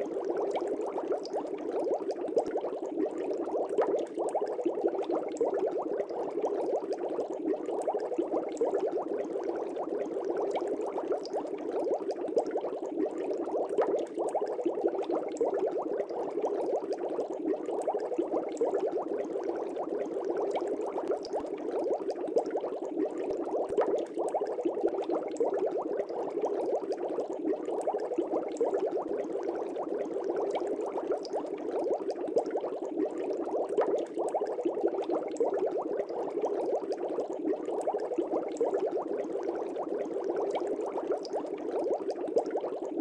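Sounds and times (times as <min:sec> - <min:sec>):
aquarium air bubbles: 0:00.0 - 0:43.0.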